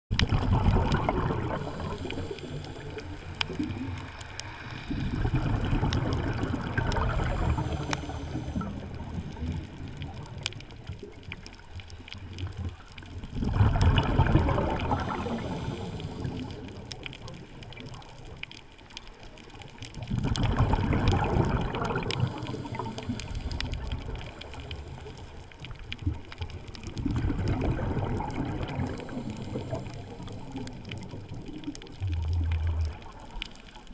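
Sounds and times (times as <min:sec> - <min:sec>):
diver exhaling bubbles underwater: 0:00.1 - 0:10.4, 0:13.2 - 0:17.5, 0:19.9 - 0:25.4, 0:26.1 - 0:33.4.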